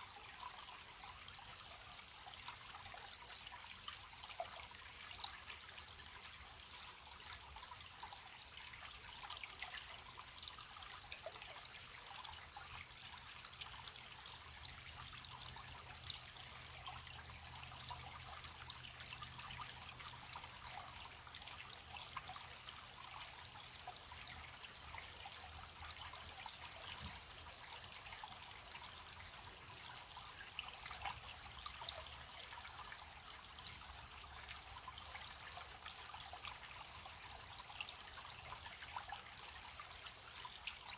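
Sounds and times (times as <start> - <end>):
stream babbling over stones: 0.0 - 40.9
crickets chirping: 0.1 - 40.9.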